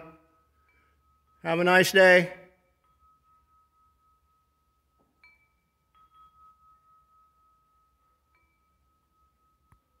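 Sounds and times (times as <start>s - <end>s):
metal wind chime ringing: 0.0s - 10.0s.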